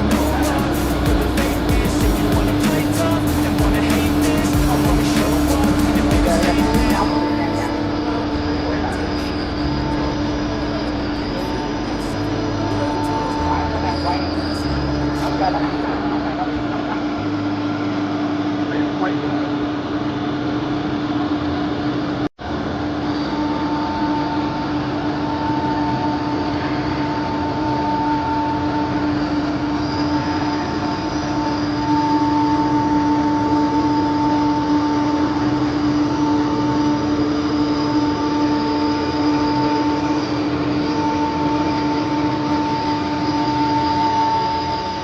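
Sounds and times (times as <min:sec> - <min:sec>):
cnc router machining: 0:00.0 - 0:45.0.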